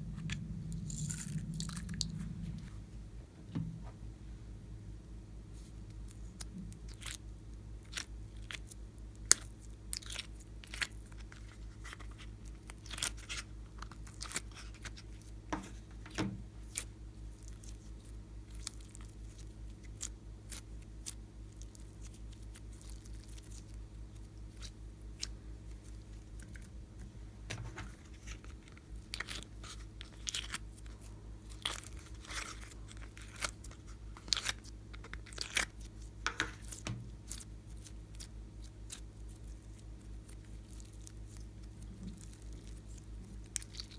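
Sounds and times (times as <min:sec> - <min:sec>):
steady low hum: 0:00.0 - 0:43.9
slime clicking and crackling: 0:05.6 - 0:26.7, 0:28.1 - 0:43.9.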